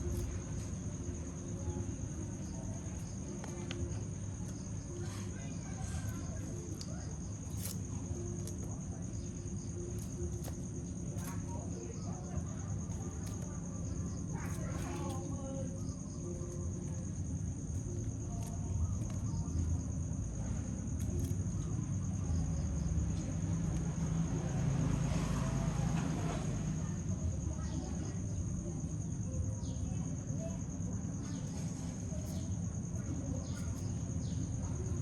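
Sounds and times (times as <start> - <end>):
high-pitched insect trill: 0.0 - 35.0.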